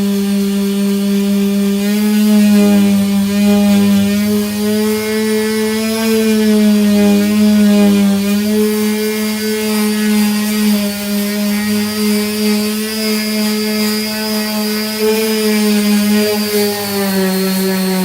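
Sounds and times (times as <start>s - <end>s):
power sander whining: 0.0s - 18.0s.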